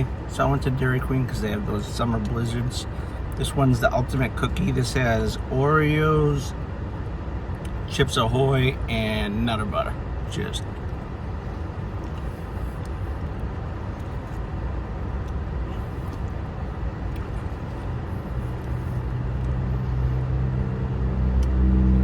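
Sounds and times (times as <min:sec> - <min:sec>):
deep engine hum: 0:00.0 - 0:22.0
road noise rumble: 0:00.0 - 0:22.0.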